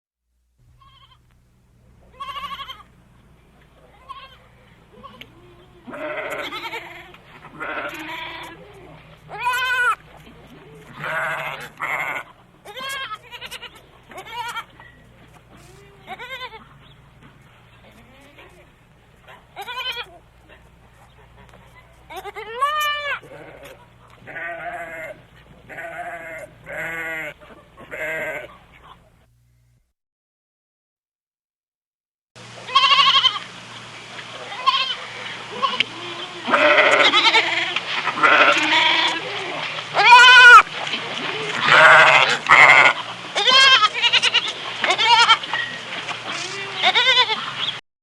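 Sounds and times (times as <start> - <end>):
goat bleating: 0.7 - 1.3, 2.0 - 3.0, 3.8 - 29.0, 32.6 - 33.5, 34.4 - 47.7.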